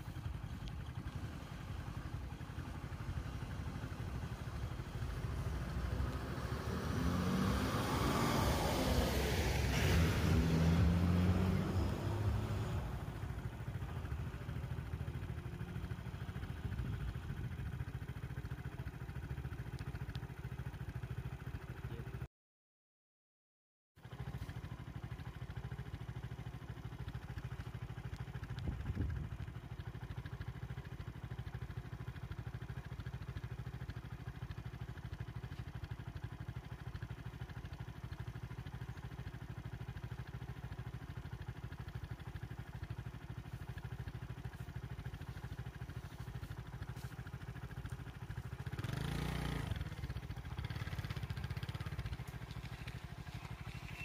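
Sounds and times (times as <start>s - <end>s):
vehicle engine idling: 0.0s - 22.3s, 24.0s - 54.0s.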